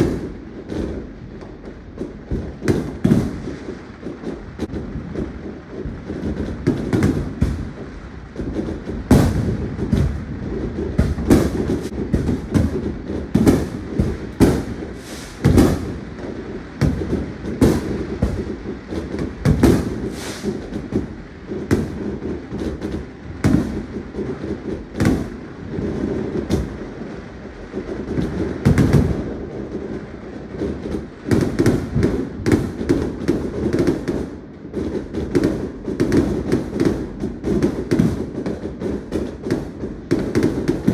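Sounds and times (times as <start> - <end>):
distant firework bangs: 0.0 - 40.9
loud firework bangs: 0.0 - 40.9.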